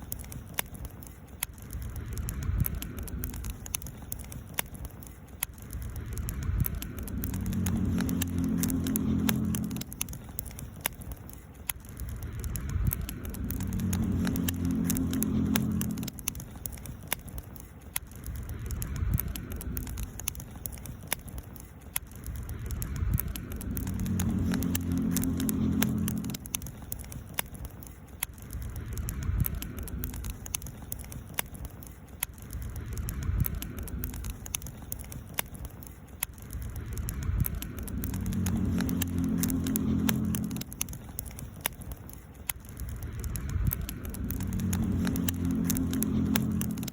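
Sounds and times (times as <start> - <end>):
low hum: 0.0 - 21.4, 22.0 - 31.8, 32.4 - 46.9
campfire crackling and popping: 0.0 - 46.9.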